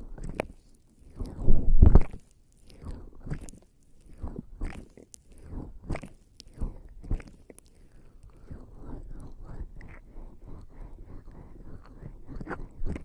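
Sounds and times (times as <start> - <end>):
wet skin rubbing on microphone: 0.0 - 13.0.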